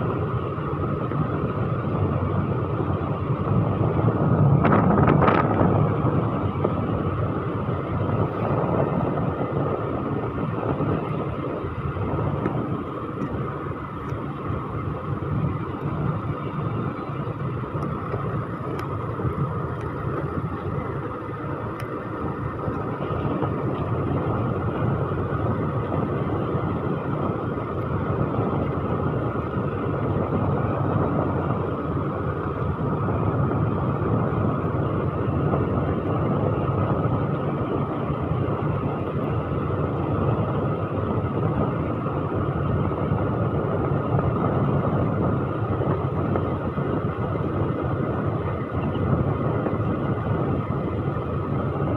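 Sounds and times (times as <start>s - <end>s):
scooter engine running: 0.0s - 51.9s
wind and road noise: 0.0s - 51.9s.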